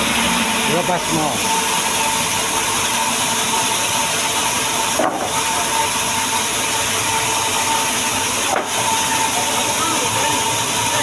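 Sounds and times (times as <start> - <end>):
woodworking machine hissing and whining: 0.0 - 11.0.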